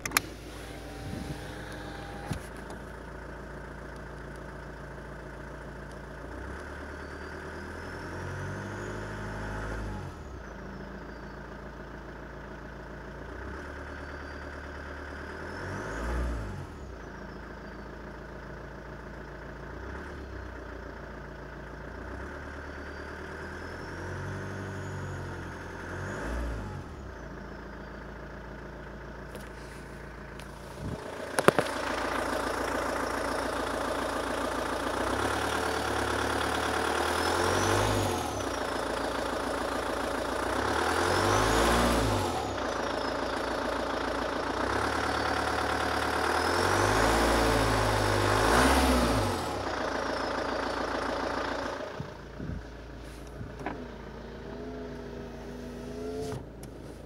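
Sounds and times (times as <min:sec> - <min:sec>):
diesel engine idling and revving: 0:00.0 - 0:57.0.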